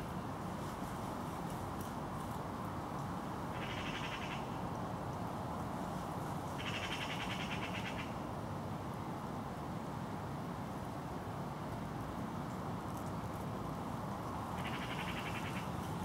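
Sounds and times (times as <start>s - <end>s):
outdoor noise rush: 0.0s - 16.0s.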